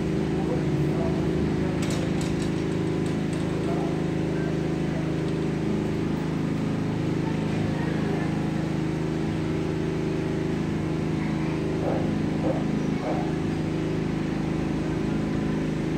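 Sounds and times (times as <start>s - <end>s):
motor humming steadily: 0.0s - 15.9s.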